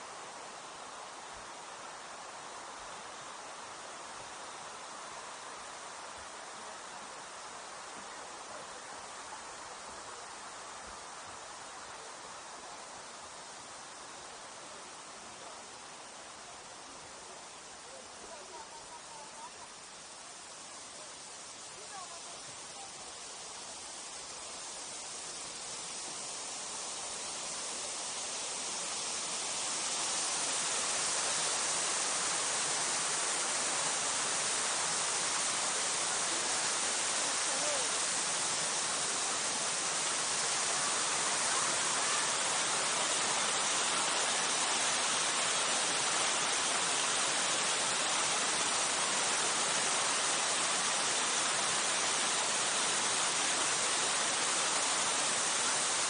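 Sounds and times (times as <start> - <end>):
falling water rushing: 0.0 - 56.0.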